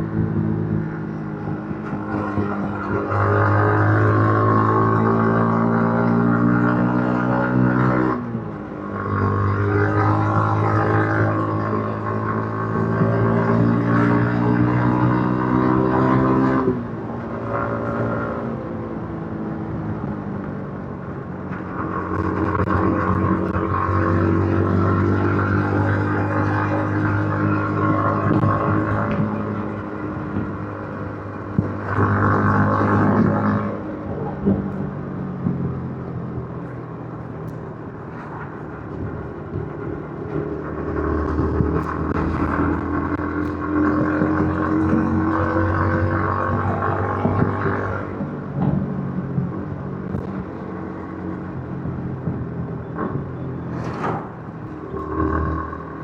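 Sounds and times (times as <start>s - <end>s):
motorcycle engine revving: 0.0s - 20.2s, 20.8s - 56.0s.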